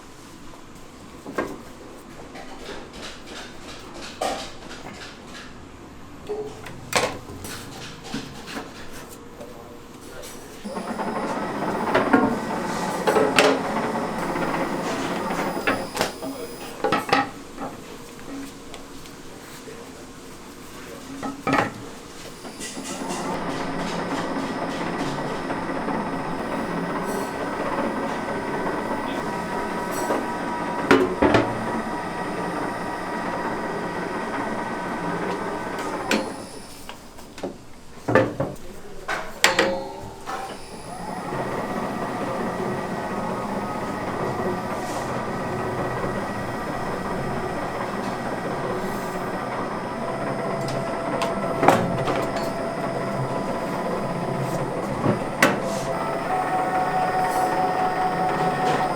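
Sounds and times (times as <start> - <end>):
kitchen machine humming: 0.0 - 58.9.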